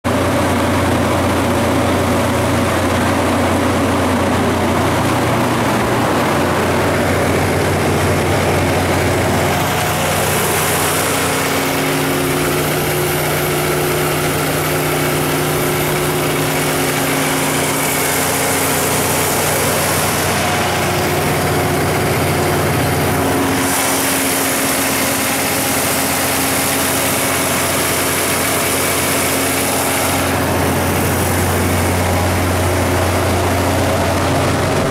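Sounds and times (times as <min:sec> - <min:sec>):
diesel generator running: 0:00.0 - 0:34.9.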